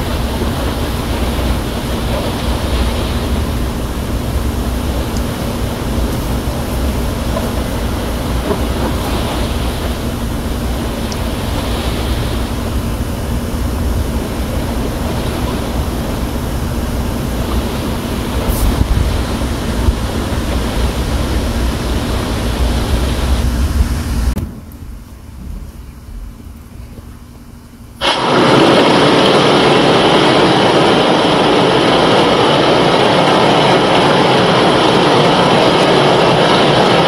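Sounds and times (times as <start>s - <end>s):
ocean waves rushing: 0.0s - 24.6s, 28.0s - 37.0s.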